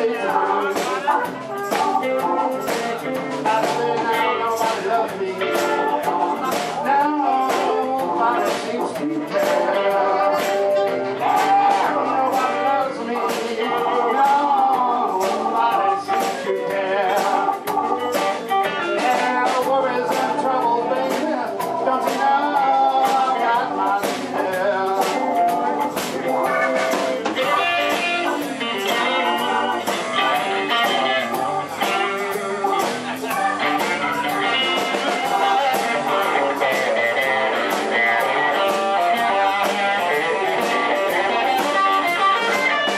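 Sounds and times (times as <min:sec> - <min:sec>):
amplified harmonica: 0:00.0 - 0:42.9
bass guitar: 0:00.0 - 0:42.9
drums: 0:00.0 - 0:42.9
electric guitar: 0:00.0 - 0:42.9.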